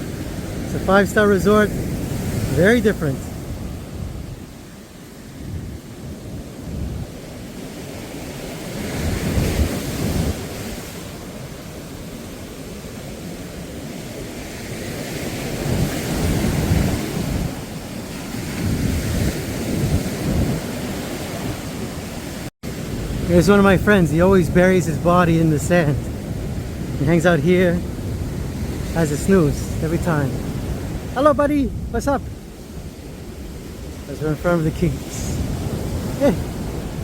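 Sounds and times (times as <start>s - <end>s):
sea surf washing onto beach: 0.0s - 37.0s
wind rumble on microphone: 0.0s - 37.0s.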